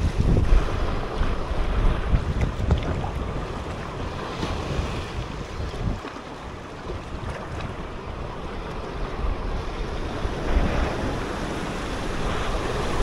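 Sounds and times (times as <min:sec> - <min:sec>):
sea surf washing over rocks: 0:00.0 - 0:13.0
wind buffeting microphone: 0:00.0 - 0:13.0.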